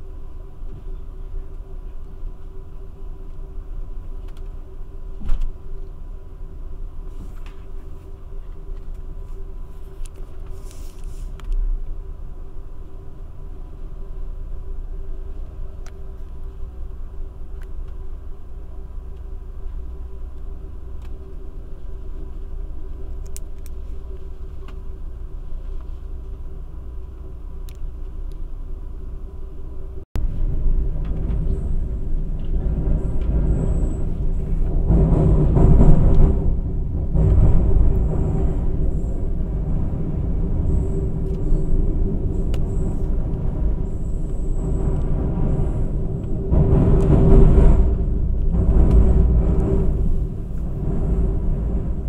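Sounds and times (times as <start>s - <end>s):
train crossing steel bridge: 0.0s - 52.0s
train wheels rumbling on track: 0.0s - 52.0s.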